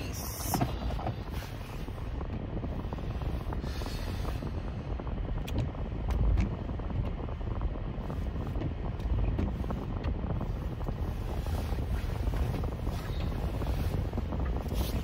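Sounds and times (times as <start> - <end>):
car interior low rumble: 0.0 - 15.0
raindrops ticking on car roof: 0.0 - 15.0.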